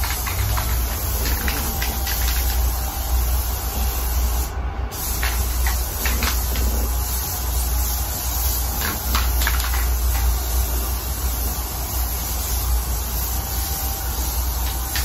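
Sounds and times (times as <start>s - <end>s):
aerosol spray hissing: 0.0s - 15.0s.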